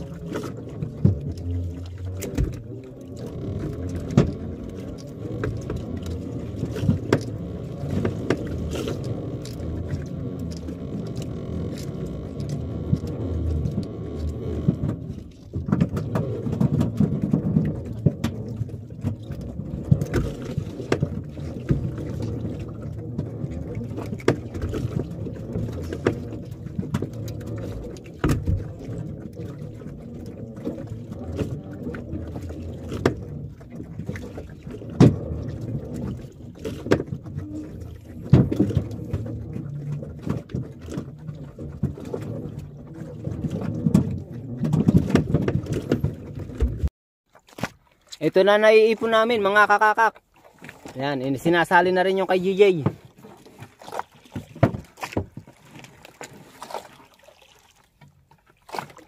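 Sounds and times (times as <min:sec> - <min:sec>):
knocks and taps on boat: 0:00.0 - 0:46.9, 0:49.0 - 0:56.9.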